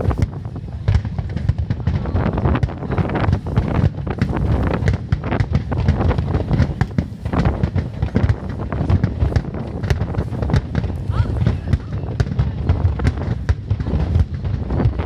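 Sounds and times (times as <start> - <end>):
fireworks popping and banging: 0.0 - 15.0
wind rumbling on microphone: 0.0 - 15.0.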